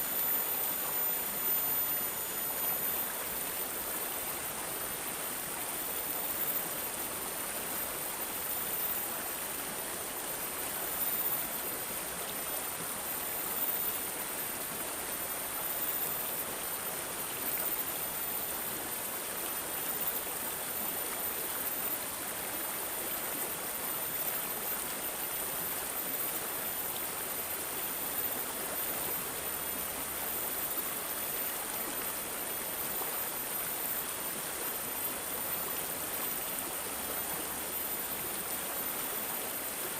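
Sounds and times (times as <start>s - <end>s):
water babbling and gurgling: 0.0s - 39.9s.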